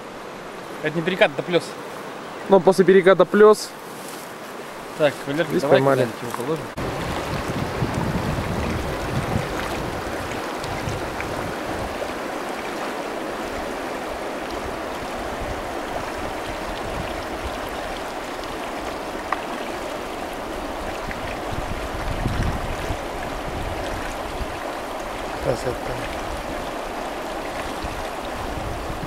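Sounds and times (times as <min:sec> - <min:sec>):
river water over stones: 0:00.0 - 0:29.0.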